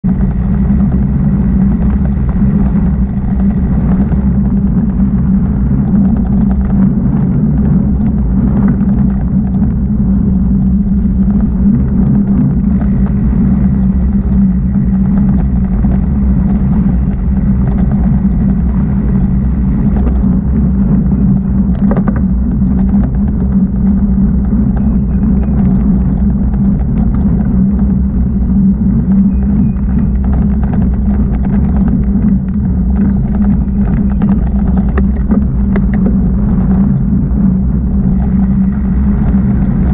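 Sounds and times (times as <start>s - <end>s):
mountain bike low rumble: 0.0s - 39.9s
small clicks and rattles: 0.0s - 39.9s.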